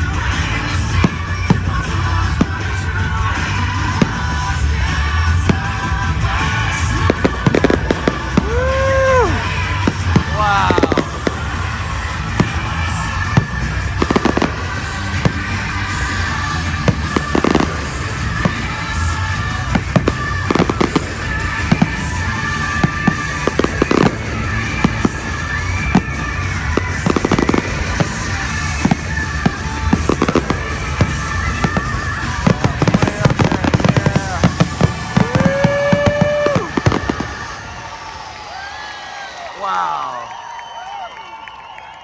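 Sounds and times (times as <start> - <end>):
fireworks bursting and crackling: 0.0 - 39.4
music soundtrack: 0.0 - 40.2.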